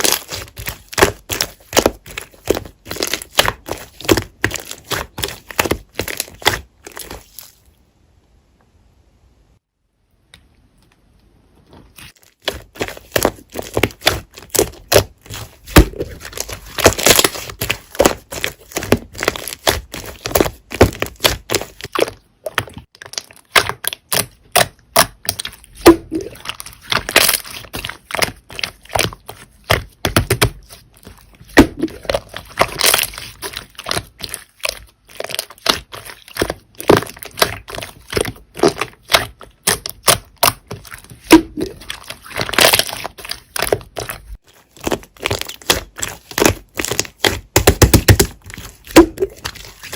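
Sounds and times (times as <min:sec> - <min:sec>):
slime crackling and popping: 0:00.0 - 0:07.7, 0:12.1 - 0:49.9.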